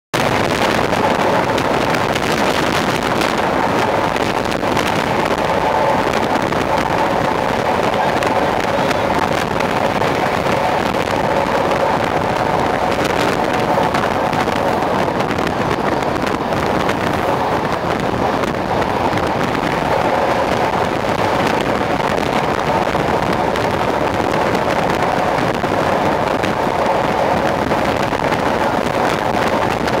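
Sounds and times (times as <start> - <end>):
train rushing noise: 0.2 - 30.0.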